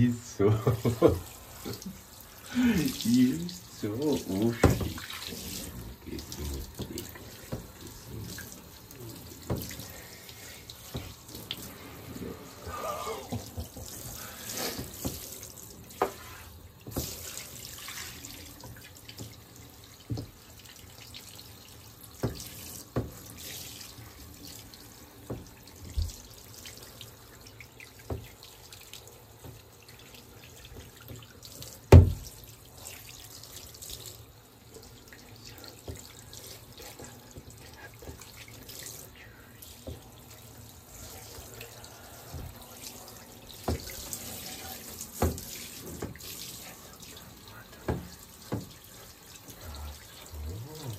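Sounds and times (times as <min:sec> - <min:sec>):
shower head spraying water: 0:00.0 - 0:28.5, 0:34.8 - 0:50.9.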